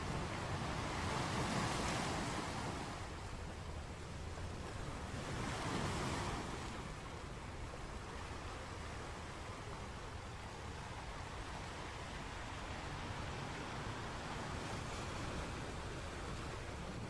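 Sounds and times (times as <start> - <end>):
sea surf waves: 0.0 - 17.0.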